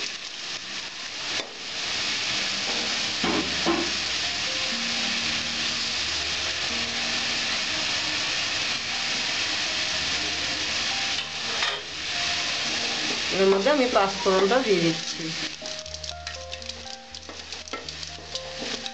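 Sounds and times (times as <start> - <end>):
leaves sizzling in hot oil: 0.0 - 18.9.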